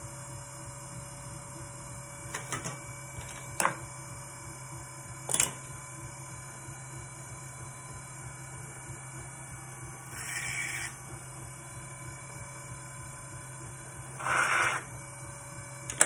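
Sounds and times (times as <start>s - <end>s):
pottery wheel motor humming: 0.0s - 16.0s.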